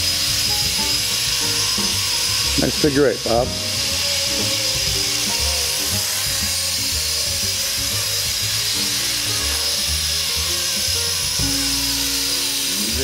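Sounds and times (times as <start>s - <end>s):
background music with bass line: 0.0s - 13.0s
rc helicopter rotor whine: 0.0s - 13.0s.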